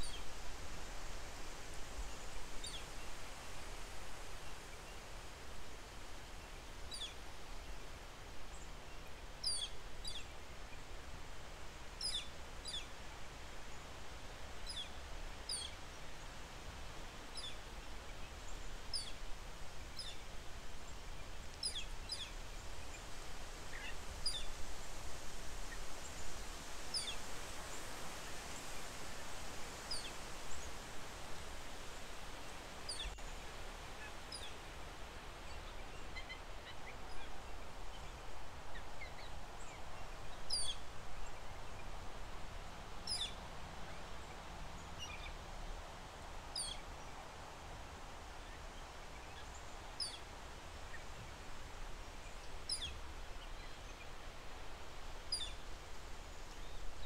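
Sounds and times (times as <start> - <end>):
wind rustling leaves: 0.0 - 57.0.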